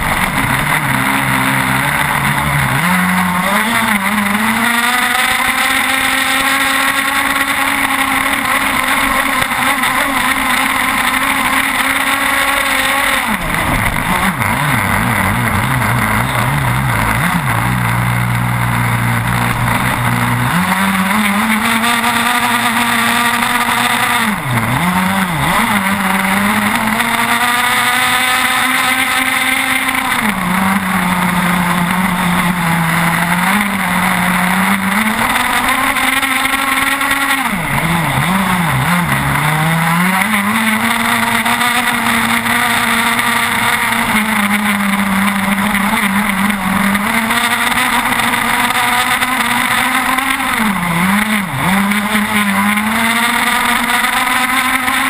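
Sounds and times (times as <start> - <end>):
two-stroke engine at high revs: 0.0 - 55.0.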